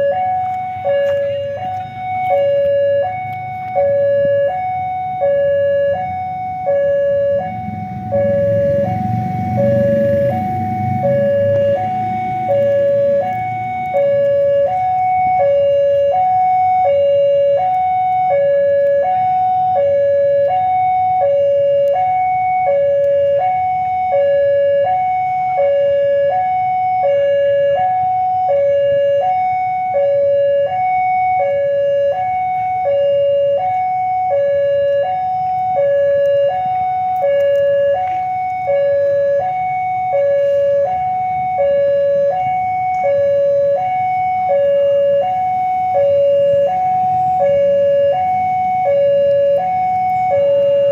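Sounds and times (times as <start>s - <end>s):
level crossing two-tone alarm: 0.0s - 50.9s.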